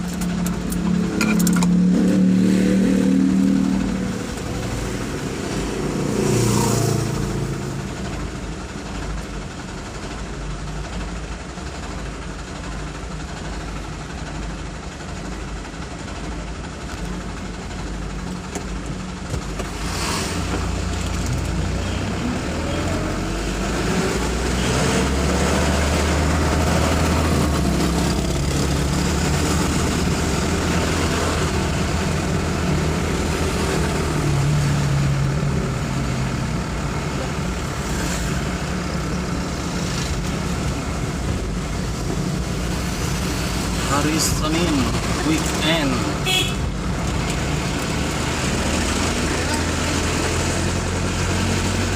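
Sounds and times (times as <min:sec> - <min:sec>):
vehicle engines running: 0:00.0 - 0:51.9
vehicles passing close by: 0:00.0 - 0:51.9.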